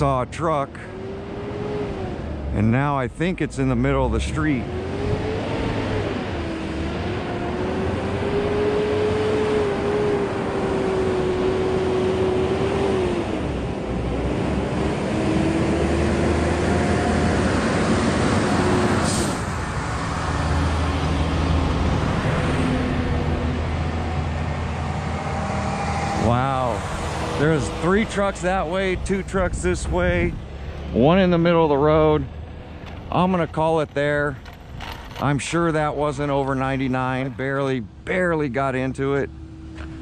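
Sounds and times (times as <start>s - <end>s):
truck engine droning: 0.0s - 40.0s
trucks and cars passing: 0.0s - 40.0s.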